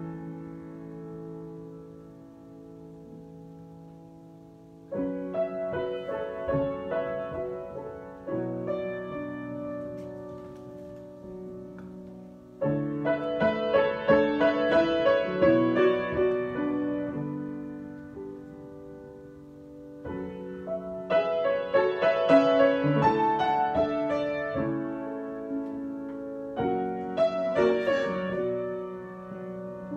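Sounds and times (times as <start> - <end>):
solo piano improvising: 0.0 - 29.9.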